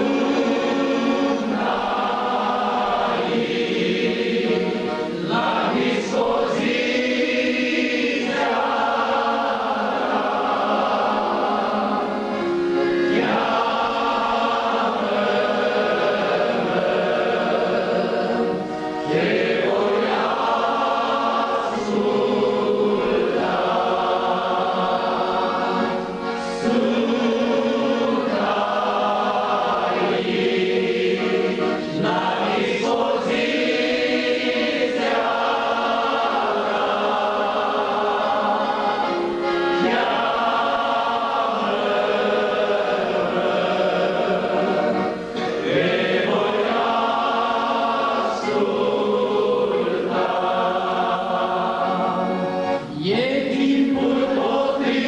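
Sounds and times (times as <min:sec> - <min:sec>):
men singing a hymn together: 0:00.0 - 0:55.0.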